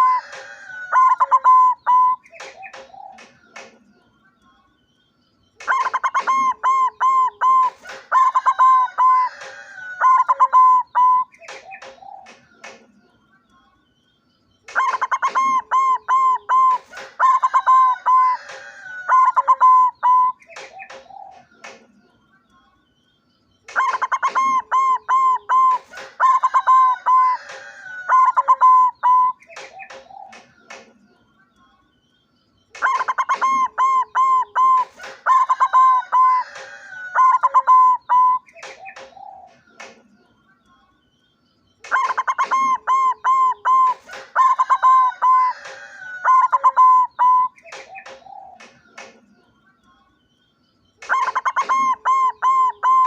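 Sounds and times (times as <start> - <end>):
dove staccato cooing: 0.0 - 3.9, 5.6 - 12.9, 14.7 - 21.9, 23.7 - 31.0, 32.8 - 40.1, 41.8 - 49.3, 51.0 - 53.0.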